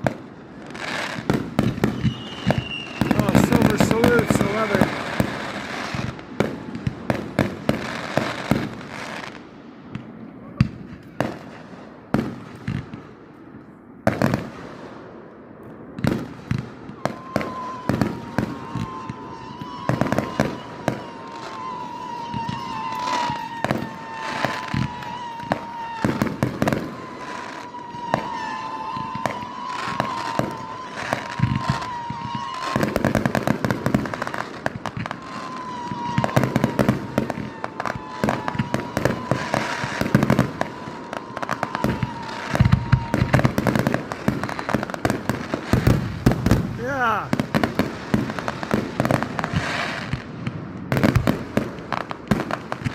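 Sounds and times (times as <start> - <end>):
high firework whistle: 0.0 - 13.0, 16.0 - 52.9
firework bangs: 0.0 - 52.9.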